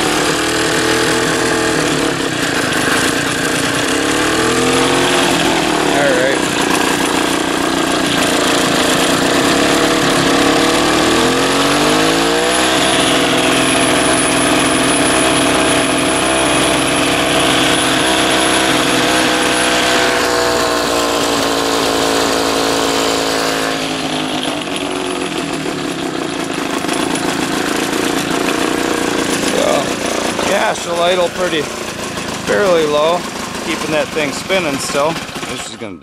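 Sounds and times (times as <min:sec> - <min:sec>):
gas engine driving grinding wheel: 0:00.0 - 0:36.0.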